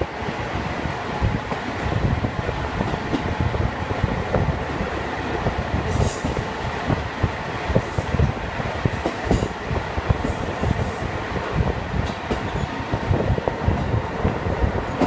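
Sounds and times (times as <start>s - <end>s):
railcar rumble: 0.0s - 15.0s.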